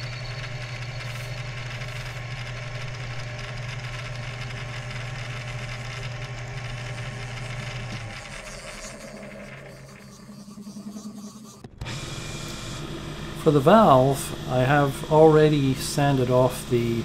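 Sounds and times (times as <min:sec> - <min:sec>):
lathe running: 0:00.0 - 0:17.0.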